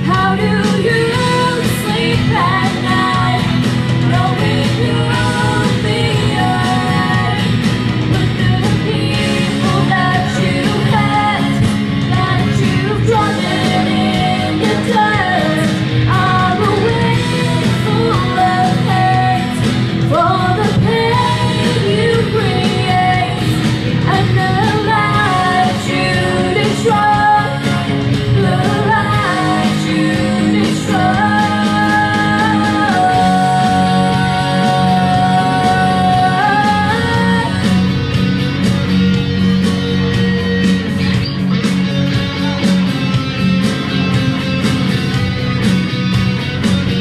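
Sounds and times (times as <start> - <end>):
woman singing pop ballad: 0.0 - 38.4
recorded backing track: 0.0 - 47.0.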